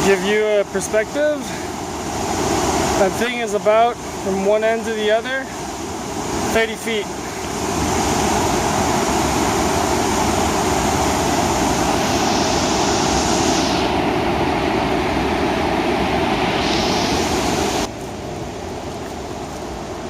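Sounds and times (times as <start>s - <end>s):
rushing whitewater creek: 0.0s - 20.0s.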